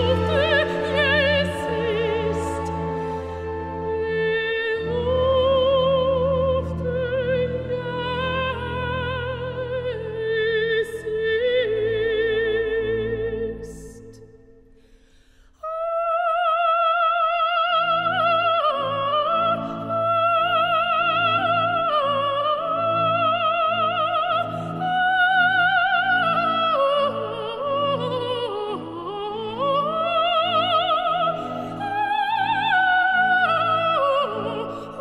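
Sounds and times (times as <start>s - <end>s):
operatic singing with vibrato: 0.0s - 14.2s, 15.6s - 35.0s.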